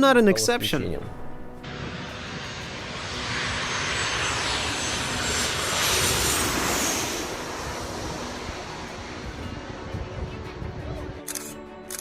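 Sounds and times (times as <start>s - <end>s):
airliner passing overhead: 1.6s - 11.9s
high engine whine: 1.6s - 12.0s.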